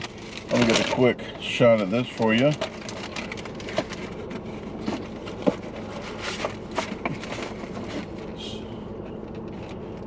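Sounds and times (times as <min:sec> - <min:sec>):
food packaging clicks and rustles: 0:00.0 - 0:08.2
low hum in car: 0:00.0 - 0:10.0.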